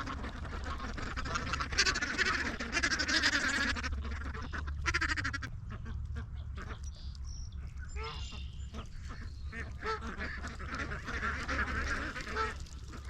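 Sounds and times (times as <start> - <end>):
ducks quacking: 0.0 - 13.0
low steady rumble: 0.0 - 13.0.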